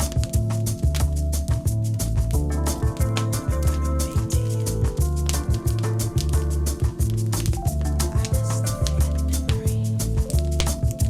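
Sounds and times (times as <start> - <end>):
deep bass line: 0.0 - 11.0
percussion strokes: 0.0 - 11.0.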